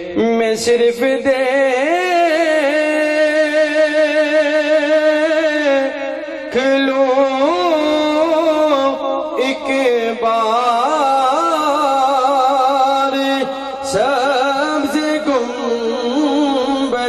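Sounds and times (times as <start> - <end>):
man singing devotional poetry: 0.0 - 17.0.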